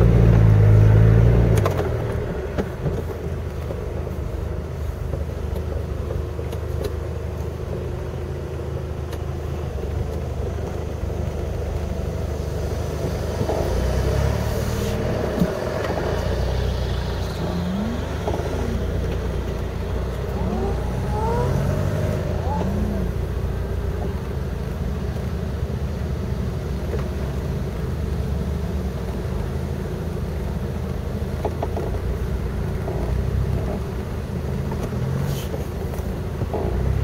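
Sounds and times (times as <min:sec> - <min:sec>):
off-road vehicle engine running: 0:00.0 - 0:37.0.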